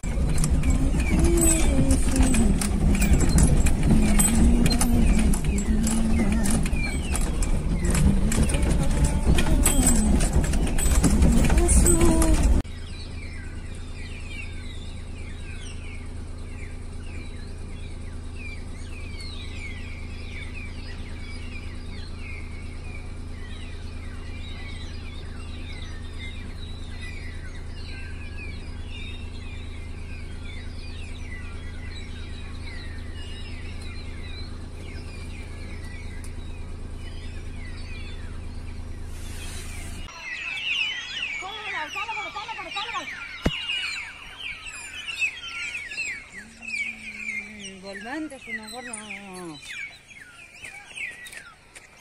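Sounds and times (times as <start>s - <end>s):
small birds chirping: 0.0s - 52.0s
steady low hum: 0.0s - 52.0s.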